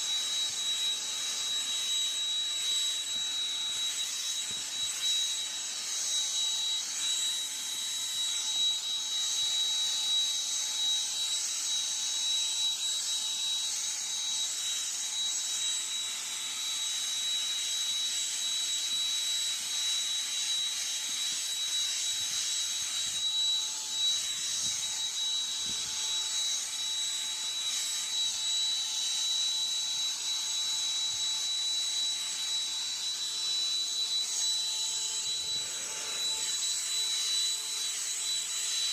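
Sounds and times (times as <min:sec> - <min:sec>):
handheld vacuum running: 0:00.0 - 0:38.9.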